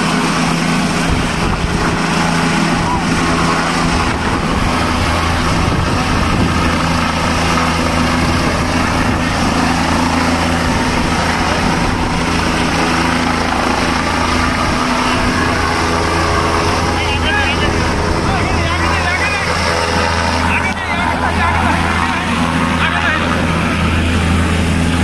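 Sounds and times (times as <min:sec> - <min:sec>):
helicopter drone: 0:00.0 - 0:25.0.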